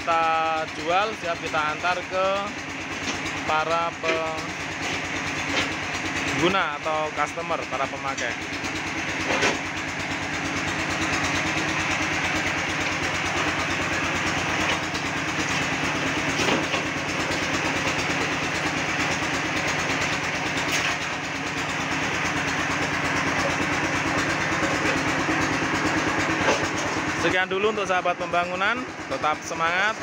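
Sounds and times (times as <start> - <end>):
machinery motor drone pulsing: 0.0 - 30.0.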